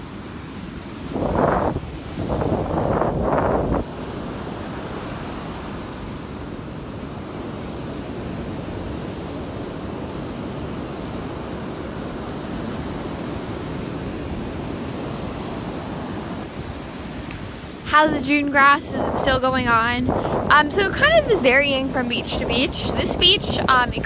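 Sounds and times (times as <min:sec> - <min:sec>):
surf washing on beach: 0:00.0 - 0:24.0
wind on microphone: 0:00.0 - 0:24.0.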